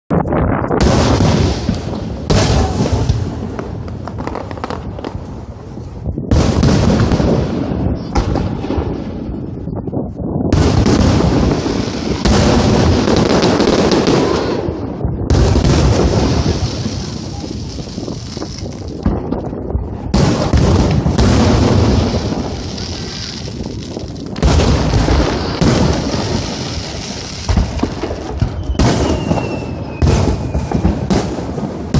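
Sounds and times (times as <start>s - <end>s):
fireworks booming: 0.2s - 31.9s
fireworks crackle: 0.2s - 31.9s.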